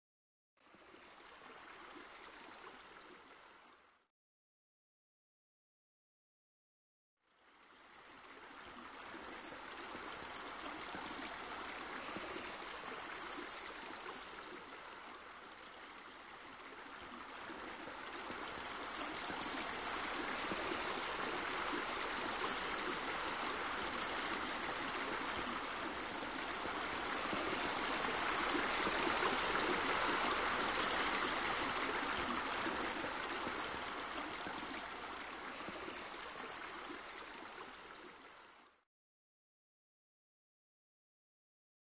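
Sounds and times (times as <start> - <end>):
flowing water rushing: 0.6 - 4.0, 7.3 - 38.8.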